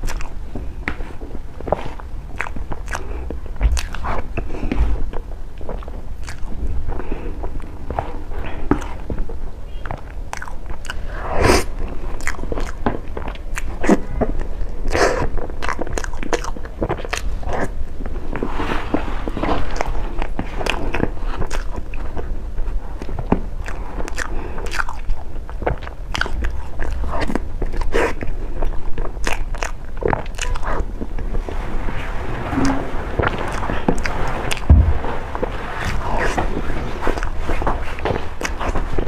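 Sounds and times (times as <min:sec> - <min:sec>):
person chewing cake: 0:00.0 - 0:31.5, 0:32.7 - 0:39.0.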